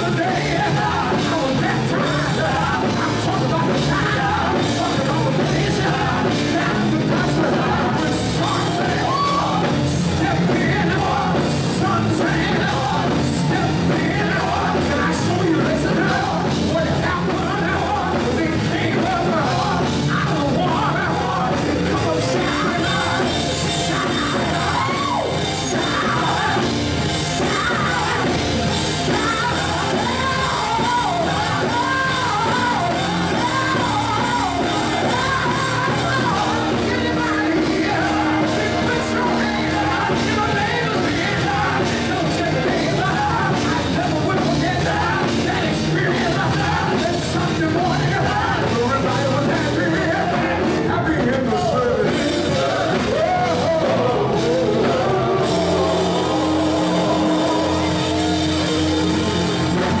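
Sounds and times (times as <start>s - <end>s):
band playing: 0.0s - 60.0s
vocal group singing: 0.0s - 60.0s.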